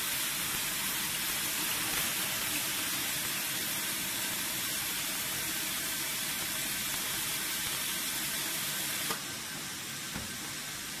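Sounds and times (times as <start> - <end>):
bottle filling line hissing: 0.0 - 11.0.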